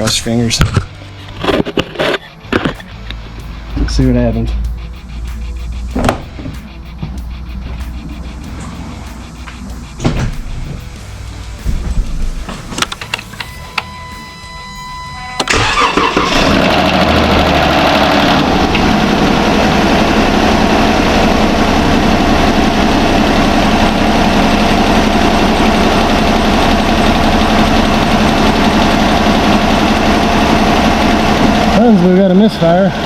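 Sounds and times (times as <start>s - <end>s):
car engine cranking and starting: 0.0s - 33.0s
engine idling with misfire: 0.0s - 33.0s.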